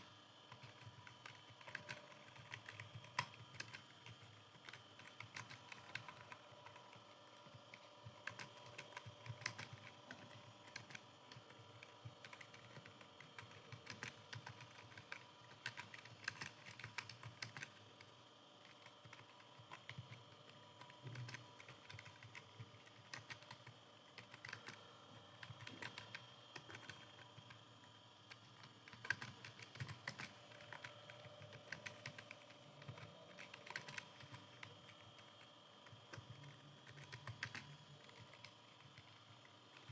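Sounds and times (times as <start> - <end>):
keyboard keys clicking: 0.5 - 17.8, 18.6 - 27.5, 28.3 - 39.9.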